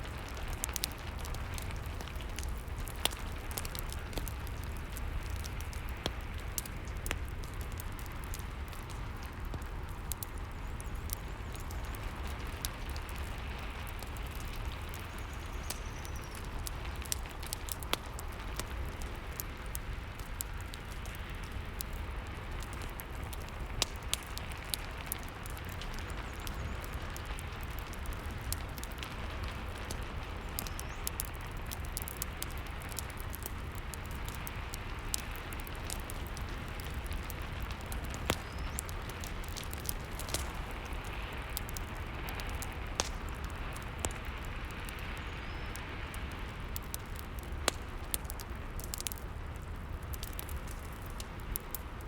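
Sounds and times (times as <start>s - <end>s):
crackling fireplace: 0.0s - 52.0s
steady rain: 0.0s - 52.0s.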